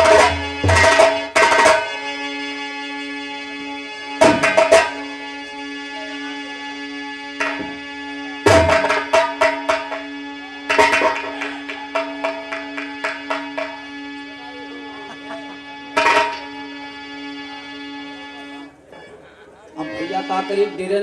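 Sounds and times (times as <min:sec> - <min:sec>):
steady held drone: 0:00.0 - 0:21.0.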